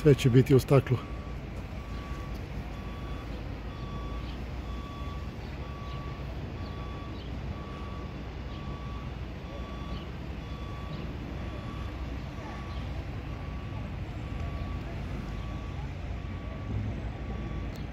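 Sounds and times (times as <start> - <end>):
low steady rumble: 0.0 - 17.9
reversing alarm beeping: 0.0 - 17.9.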